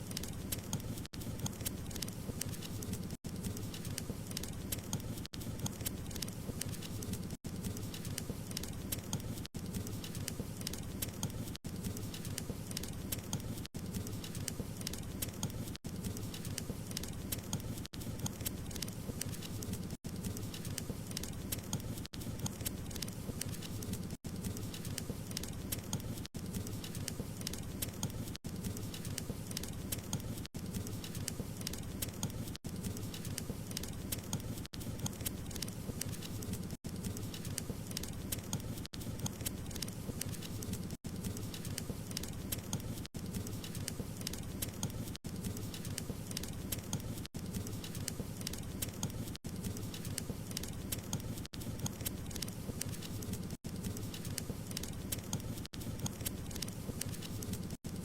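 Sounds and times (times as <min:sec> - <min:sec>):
fire popping and snapping: 0:00.0 - 0:58.0.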